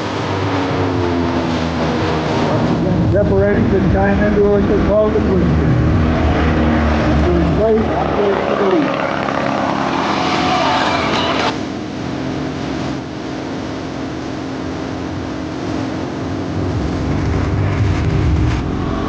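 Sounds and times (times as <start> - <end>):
propeller planes droning: 0.0 - 19.0
low rumble: 0.7 - 19.0.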